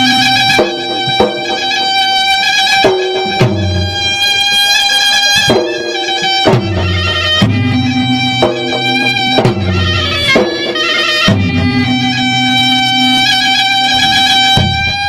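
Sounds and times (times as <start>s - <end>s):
ceremonial drums: 0.0s - 15.0s
reedy wind instrument buzzing: 0.0s - 15.0s.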